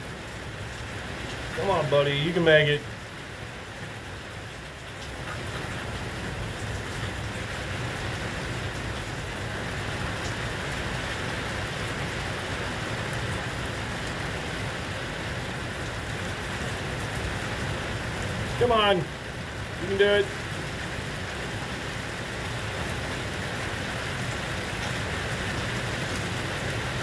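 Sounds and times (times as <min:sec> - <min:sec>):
heavy rain on pavement: 0:00.0 - 0:27.0.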